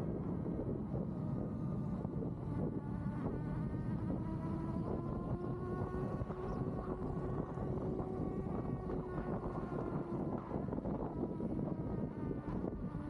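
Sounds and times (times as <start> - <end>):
wind rumbling on microphone: 0.0 - 13.0
electric motor whine: 0.3 - 13.0.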